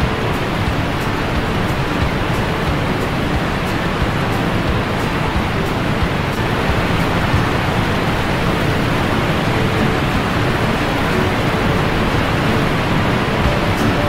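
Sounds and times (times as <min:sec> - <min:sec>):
waterfall rushing into rocky pool: 0:00.0 - 0:14.0.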